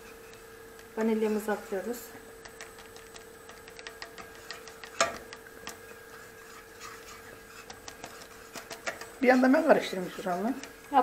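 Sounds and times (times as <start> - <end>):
whisk clicking against pot: 0.1 - 11.0
whisk knocking on pot: 0.8 - 11.0.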